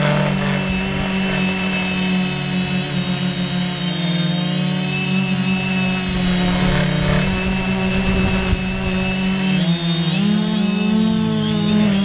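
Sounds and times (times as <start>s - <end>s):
drone propellers buzzing: 0.0s - 12.0s
high-pitched whine: 0.0s - 12.0s.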